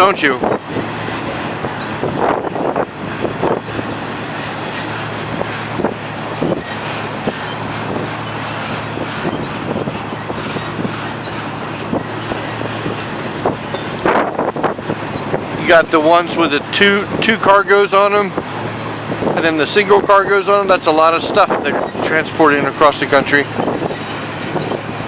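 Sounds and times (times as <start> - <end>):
freight train cars rolling: 0.0 - 25.0.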